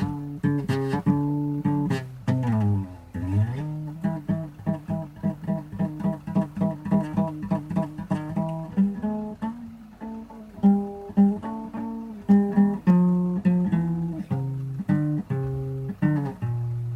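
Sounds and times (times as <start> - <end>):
plucked string instrument blues: 0.0 - 16.9.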